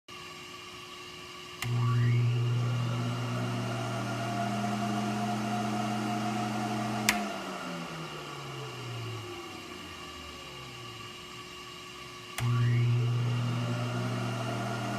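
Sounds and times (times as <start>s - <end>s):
fume extractor motor humming: 0.1s - 14.9s.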